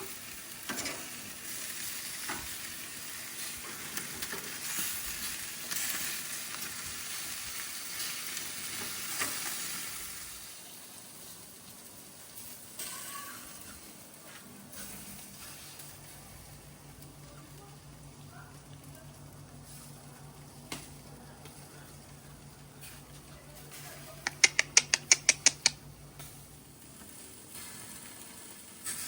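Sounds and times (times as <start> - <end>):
meat sizzling on a grill: 0.0 - 29.0.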